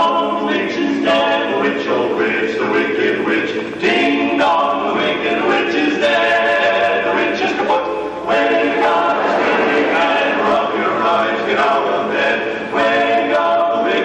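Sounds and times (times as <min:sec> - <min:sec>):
male quartet singing a cappella: 0:00.0 - 0:14.0.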